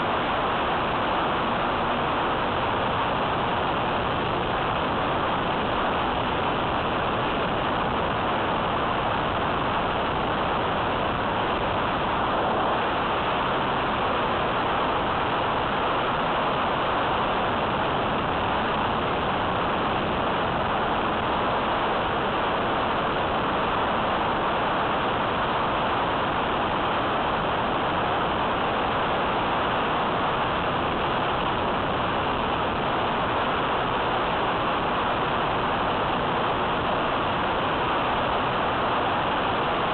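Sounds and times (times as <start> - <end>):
rush of airflow: 0.0 - 39.9.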